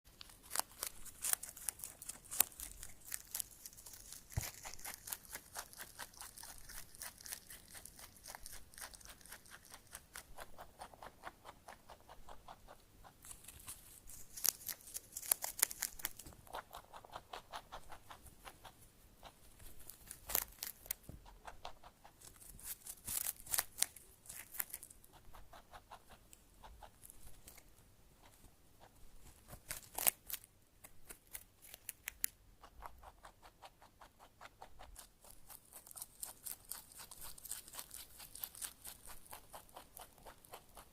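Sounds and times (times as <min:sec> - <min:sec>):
squirrel gnawing and crunching: 0:00.1 - 0:40.9.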